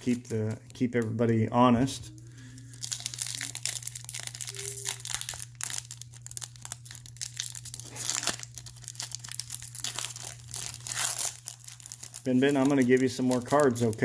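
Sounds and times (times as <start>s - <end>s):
foil wrapper tearing and crinkling: 0.0s - 0.6s, 2.4s - 14.0s.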